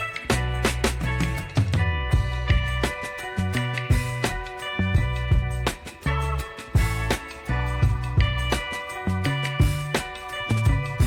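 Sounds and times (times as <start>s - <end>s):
music with drum beat: 0.0s - 11.0s.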